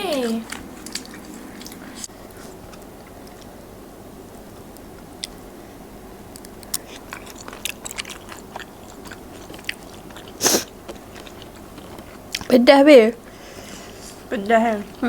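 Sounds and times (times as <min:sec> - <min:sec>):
chewing and biting food: 0:00.0 - 0:03.6, 0:06.4 - 0:15.0.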